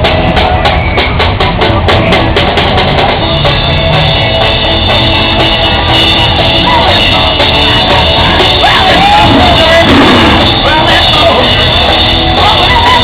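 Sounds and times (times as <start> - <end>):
driving drum beat: 0.0 - 13.0
live rock band playing: 0.0 - 13.0.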